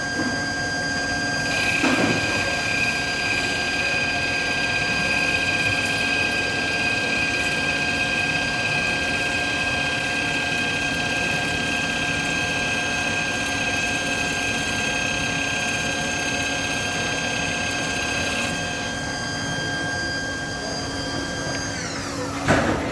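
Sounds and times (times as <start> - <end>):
lathe whining at high speed: 0.0 - 22.9.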